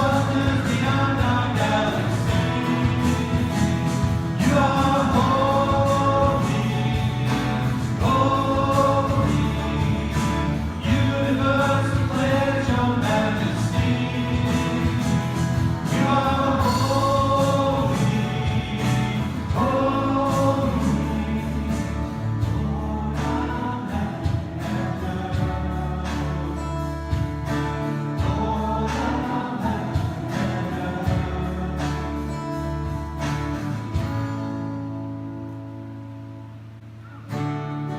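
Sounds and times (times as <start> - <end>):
voices singing worship song: 0.0 - 34.0
band with bass and guitar: 0.0 - 37.9.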